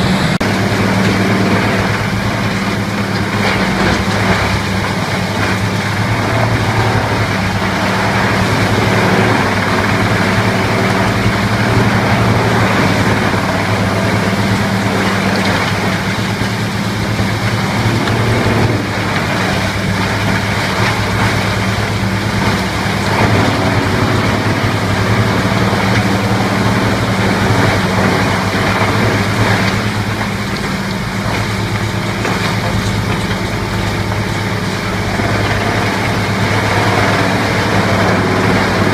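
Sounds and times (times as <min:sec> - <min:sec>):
large machine running with deep hum: 0:00.0 - 0:38.9.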